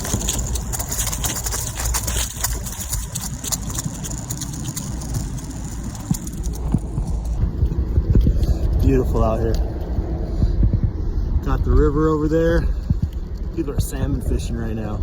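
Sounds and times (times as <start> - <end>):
skateboard wheels rolling on pavement: 0.0 - 15.0.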